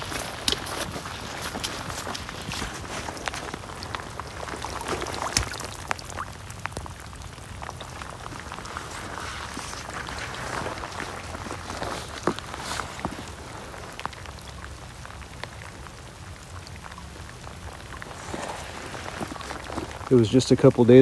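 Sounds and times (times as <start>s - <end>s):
runoff water running in channel: 0.0s - 21.0s
steady rain: 0.0s - 21.0s.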